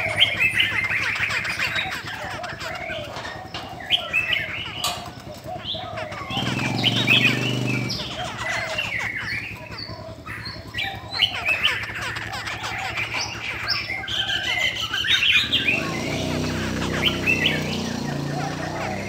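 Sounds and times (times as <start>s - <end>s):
birds calling and singing: 0.0s - 19.0s.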